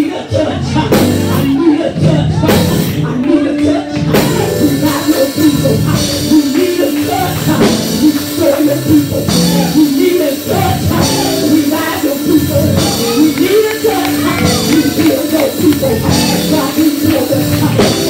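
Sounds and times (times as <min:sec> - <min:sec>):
live gospel music with drums: 0:00.0 - 0:18.0
woman singing into microphone: 0:00.0 - 0:18.0.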